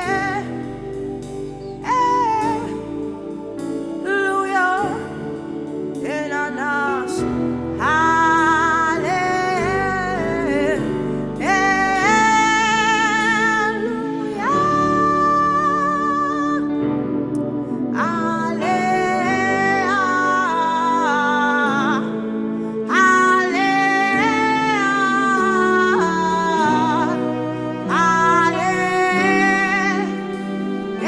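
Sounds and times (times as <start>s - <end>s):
sustained accompanying chords: 0.0s - 31.0s
person singing long notes: 4.0s - 31.0s.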